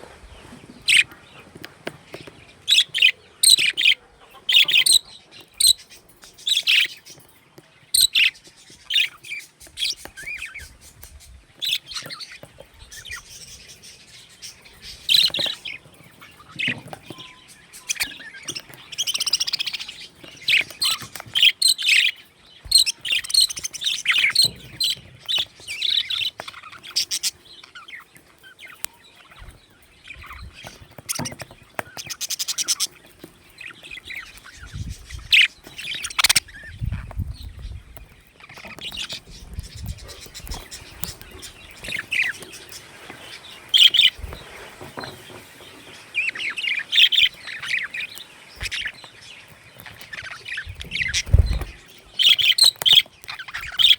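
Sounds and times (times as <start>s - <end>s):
budgerigars chirping: 0.0s - 53.9s.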